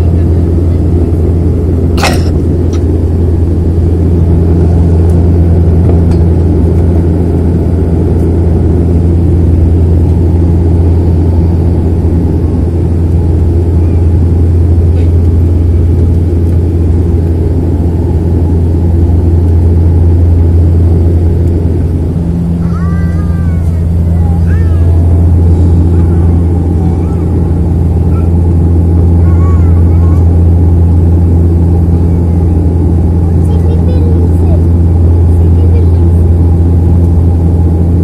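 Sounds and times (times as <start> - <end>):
turboprop engine drone in cabin: 0.0 - 38.0.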